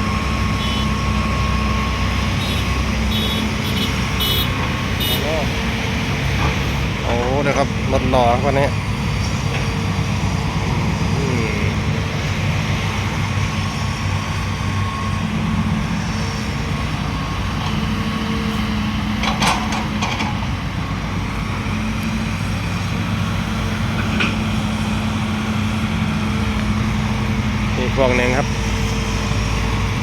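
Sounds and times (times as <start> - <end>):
heavy diesel engines droning: 0.0 - 30.0.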